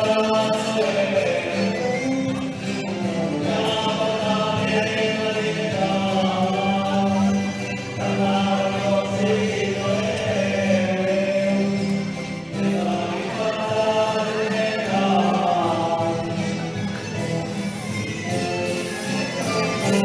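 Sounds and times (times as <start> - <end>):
folk dance music with singing: 0.0 - 20.0.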